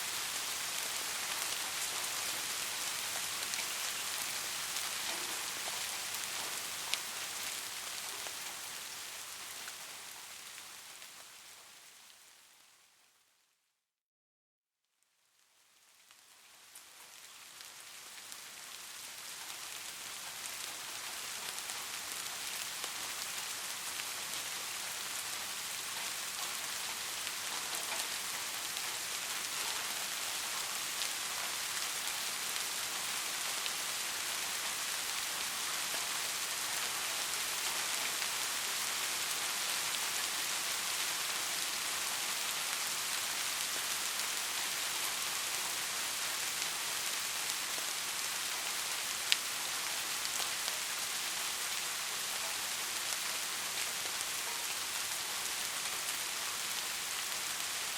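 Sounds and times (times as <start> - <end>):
steady rain falling: 0.0 - 13.5, 15.1 - 57.9.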